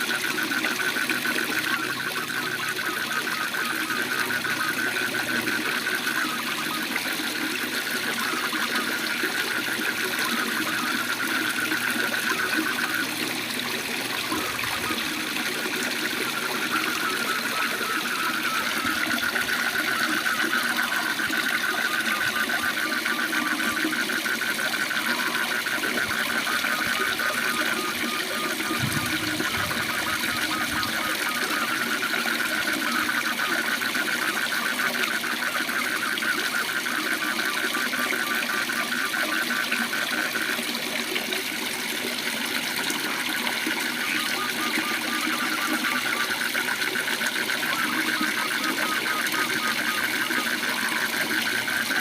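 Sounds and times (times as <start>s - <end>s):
frogs trilling: 0.0s - 52.0s.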